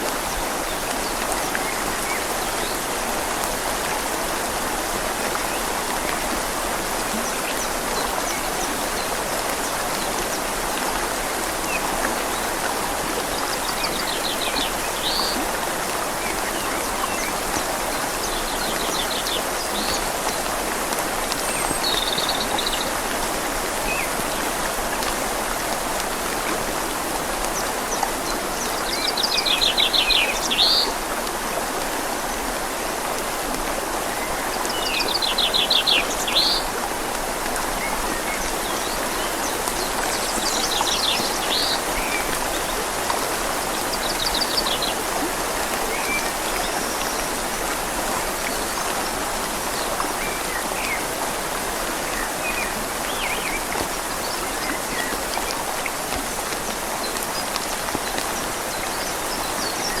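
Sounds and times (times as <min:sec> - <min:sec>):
rain falling on leaves: 0:00.0 - 1:00.0
river flowing: 0:00.0 - 1:00.0.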